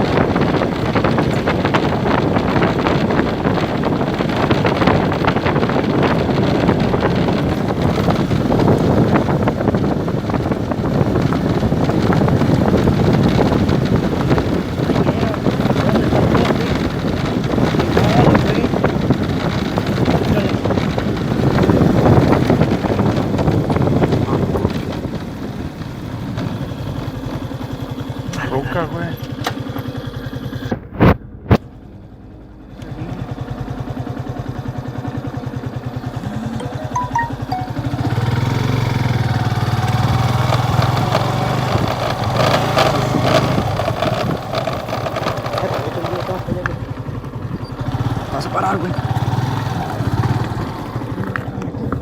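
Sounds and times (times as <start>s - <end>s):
wind noise on microphone: 0.0s - 27.8s, 30.4s - 31.9s, 37.2s - 52.0s
motorcycle engine running: 0.0s - 52.0s.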